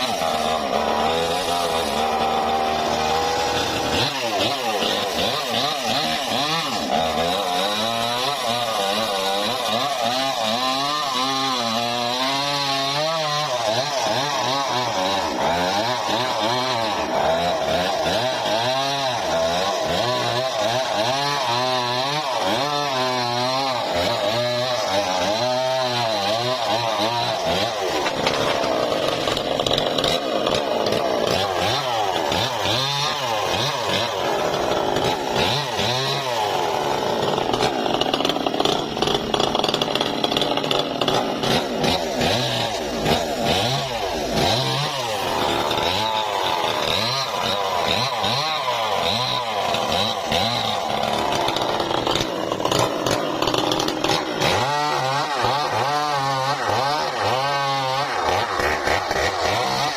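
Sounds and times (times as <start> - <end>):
engine-driven saw cutting timber: 0.0 - 59.9.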